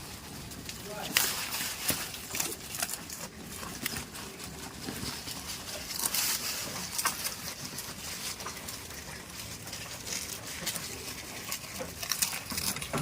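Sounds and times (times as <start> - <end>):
goats rustling and knocking: 0.0 - 13.0.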